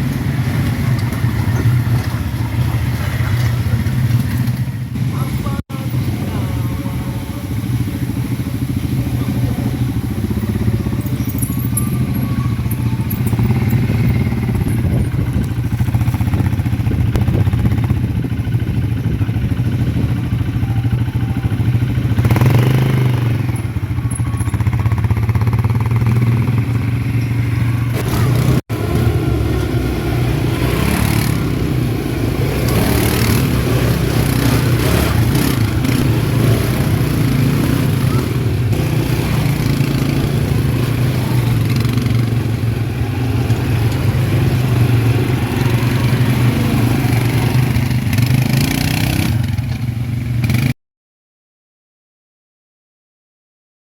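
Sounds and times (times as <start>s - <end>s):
atv engine running: 0.0s - 50.7s.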